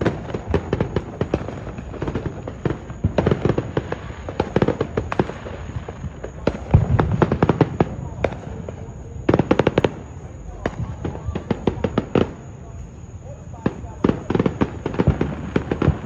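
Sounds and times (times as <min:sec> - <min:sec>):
fireworks popping and crackling: 0:00.0 - 0:16.0.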